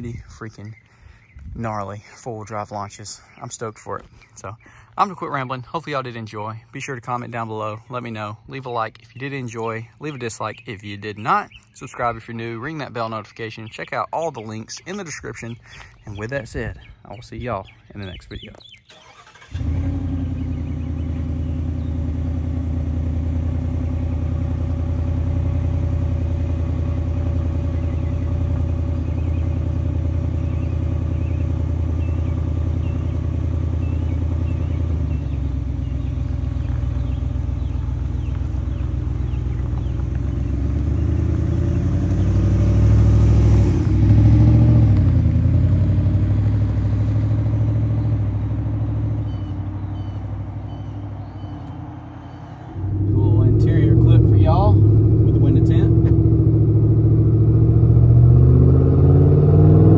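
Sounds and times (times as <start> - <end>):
engine droning steadily: 0.0 - 59.9.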